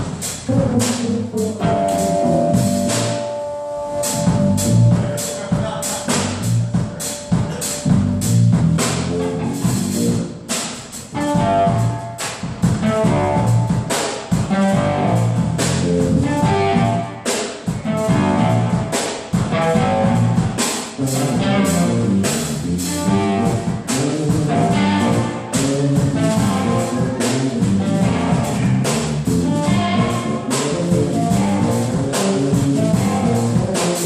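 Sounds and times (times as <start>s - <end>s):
drum kit with cymbal hits: 0.0s - 34.0s
electric bass: 0.0s - 34.0s
electric guitar: 0.0s - 34.0s.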